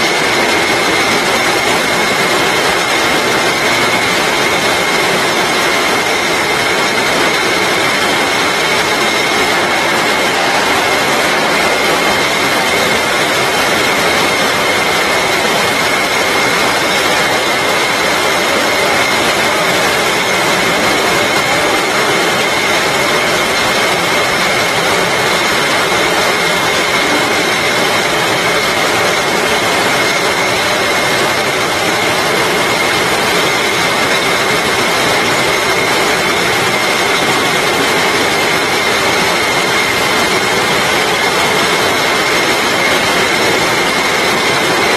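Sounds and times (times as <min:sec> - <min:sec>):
high-pitched machine whine: 0:00.0 - 0:44.9
labelling machine din: 0:00.0 - 0:44.9.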